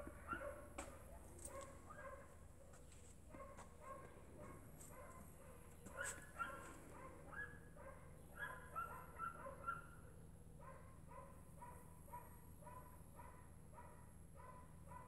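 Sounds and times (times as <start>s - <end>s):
dog barking faintly: 0.0s - 15.0s.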